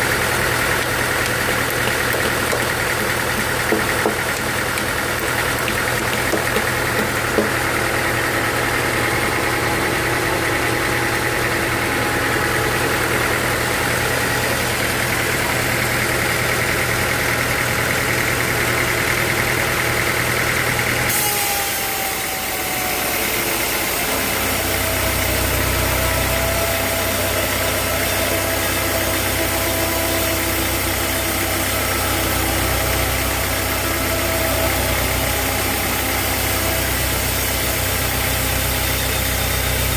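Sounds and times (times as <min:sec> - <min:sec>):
deep steady hum: 0:00.0 - 0:18.0, 0:23.0 - 0:39.9
sawmill engine drone: 0:00.0 - 0:39.9.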